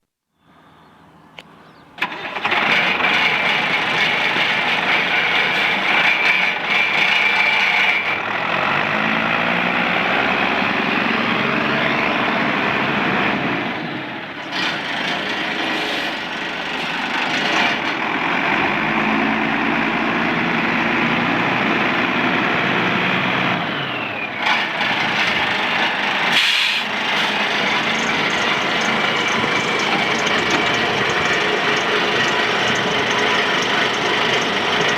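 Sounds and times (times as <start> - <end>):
truck engine starting and running: 0.4 - 34.9.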